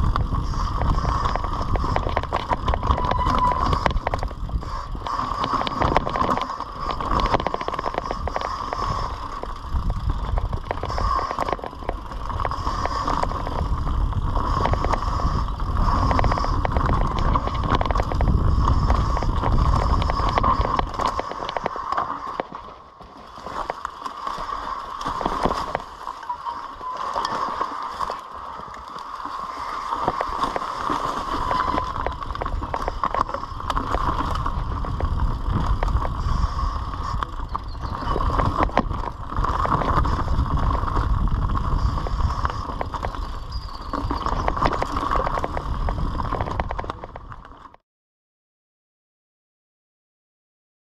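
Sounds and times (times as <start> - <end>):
wind rumble on microphone: 0.0 - 22.6, 29.6 - 47.8
bike frame and chain rattling: 0.0 - 22.7, 23.3 - 47.7
bike tyres rumbling over dirt: 0.0 - 47.8.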